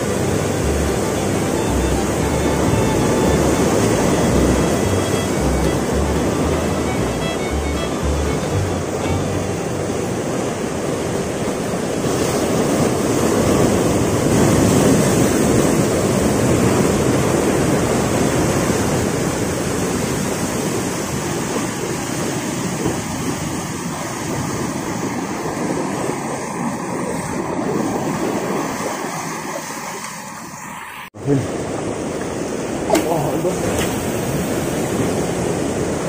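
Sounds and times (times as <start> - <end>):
ocean surf breaking over rocks: 0.0 - 36.0.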